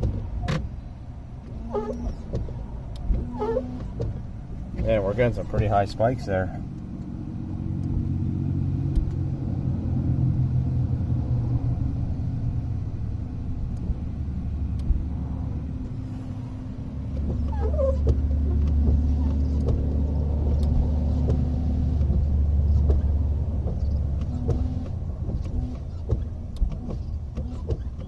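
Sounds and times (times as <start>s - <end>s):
wiper motor humming: 0.0s - 28.0s.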